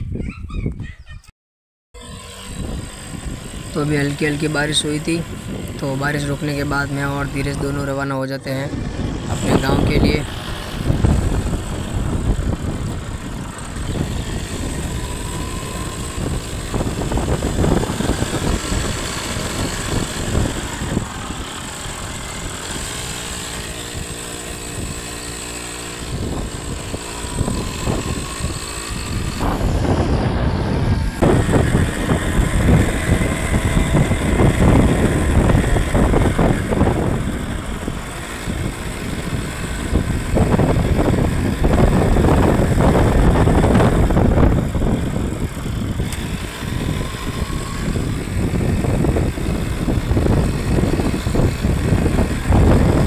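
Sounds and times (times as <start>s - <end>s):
road and wind noise: 0.0s - 1.3s, 2.0s - 53.0s
motorcycle engine running: 2.0s - 53.0s.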